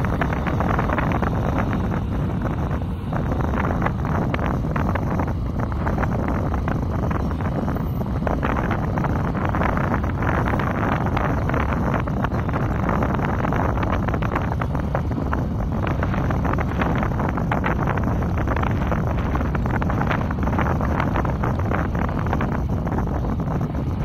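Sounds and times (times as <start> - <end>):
distant diesel tractor running: 0.0 - 24.0
wind gusting on microphone: 0.0 - 24.0.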